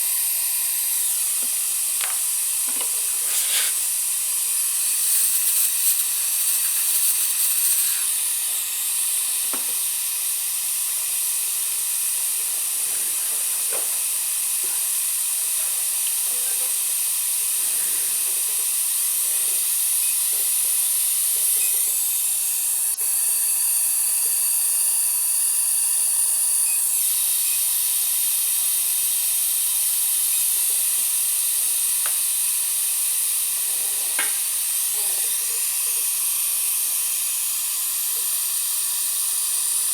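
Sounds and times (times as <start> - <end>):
dental drill hissing: 0.0 - 39.9.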